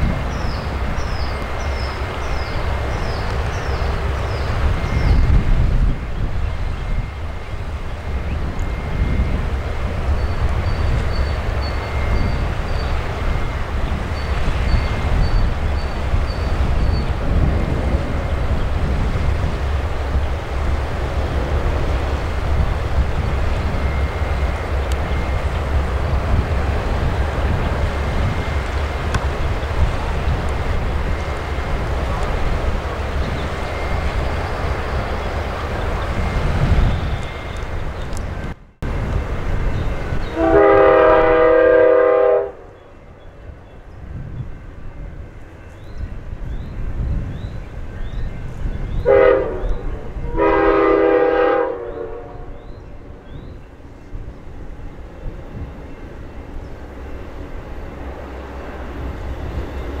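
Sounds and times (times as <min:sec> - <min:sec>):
distant train rumble: 0:00.0 - 1:00.0
wind buffeting microphone: 0:00.0 - 1:00.0.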